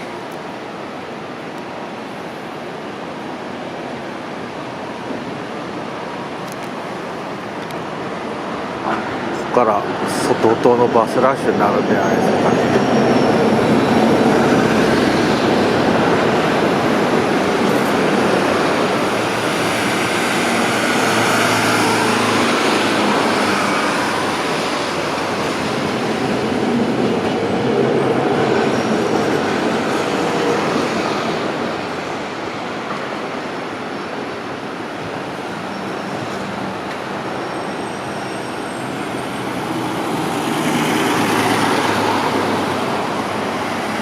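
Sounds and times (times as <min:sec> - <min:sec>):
streetcars and buses rumbling: 0:00.0 - 0:44.0.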